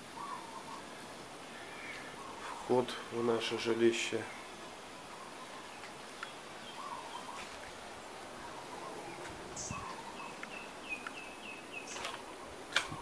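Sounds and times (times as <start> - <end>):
low bird calls: 0.0 - 13.0.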